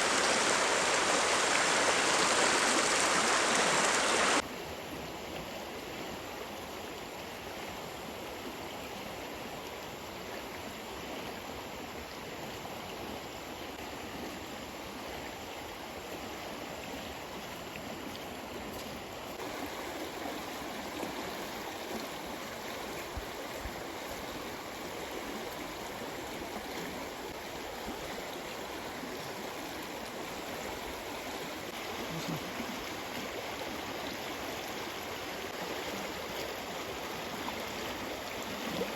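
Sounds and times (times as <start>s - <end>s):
small stream flowing: 0.0s - 38.9s.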